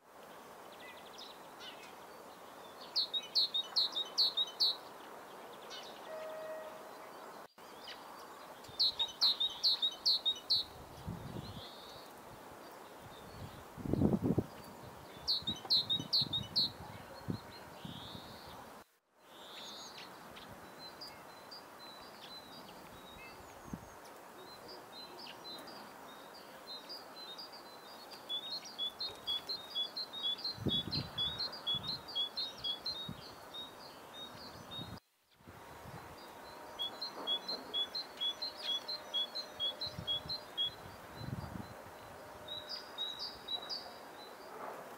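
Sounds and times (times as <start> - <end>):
cold wind hiss: 0.0 - 44.9
tits singing and calling: 0.3 - 18.6, 19.3 - 35.0, 35.8 - 44.6.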